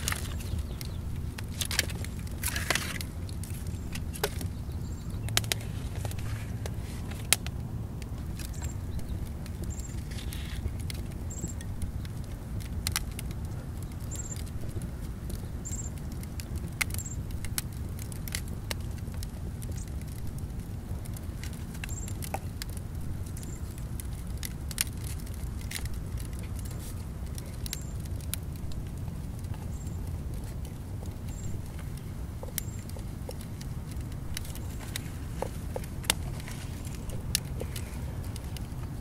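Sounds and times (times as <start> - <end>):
charcoal clicks and crackles: 0.0 - 39.0
steady low rumble: 0.0 - 39.0.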